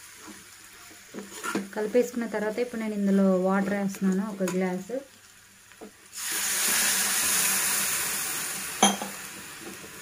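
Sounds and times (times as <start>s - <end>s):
water hissing in a hot pan: 0.0s - 3.0s, 4.8s - 10.0s.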